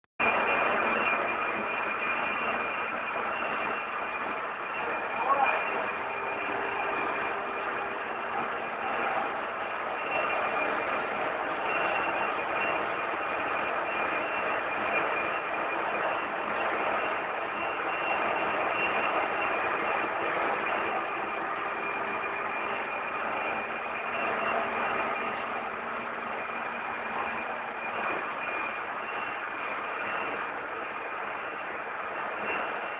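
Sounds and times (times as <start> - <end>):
whining tones: 0.2 - 32.9
metal lathe humming: 0.4 - 32.9.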